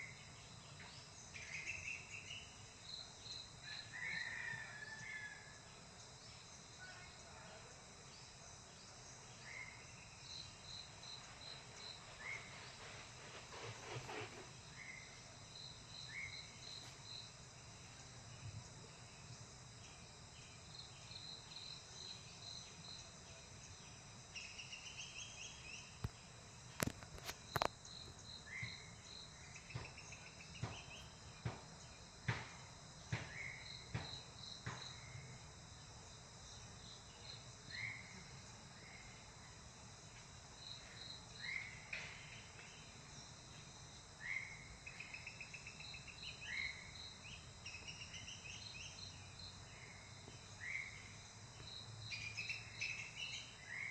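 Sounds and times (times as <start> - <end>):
insects chirring: 0.0 - 53.9.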